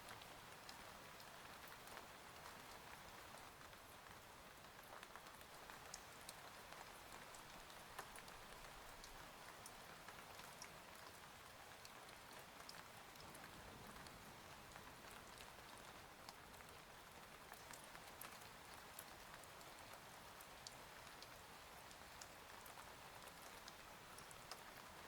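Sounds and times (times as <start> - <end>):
rain patter: 0.0 - 25.0.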